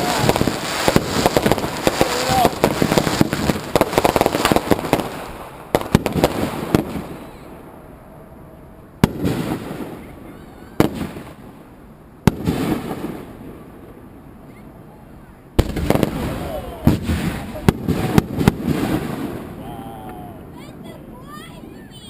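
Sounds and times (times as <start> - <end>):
fireworks bursting and crackling: 0.0 - 7.8, 9.0 - 22.0.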